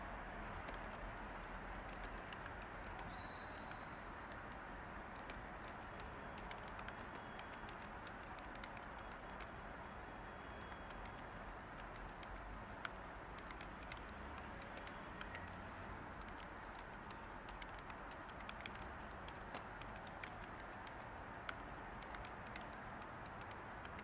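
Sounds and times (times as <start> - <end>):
white noise hiss: 0.0 - 24.0
computer keyboard typing: 0.5 - 9.6, 10.6 - 24.0.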